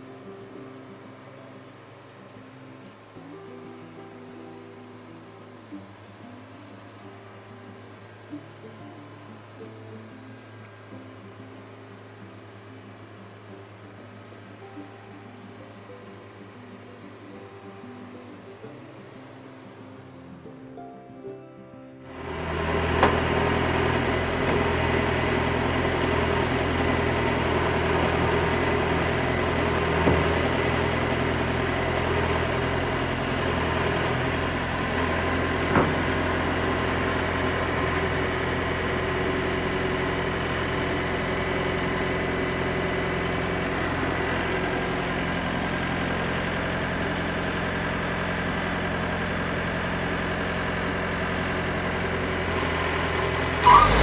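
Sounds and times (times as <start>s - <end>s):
sawmill engine running: 0.0s - 20.6s, 22.1s - 54.0s.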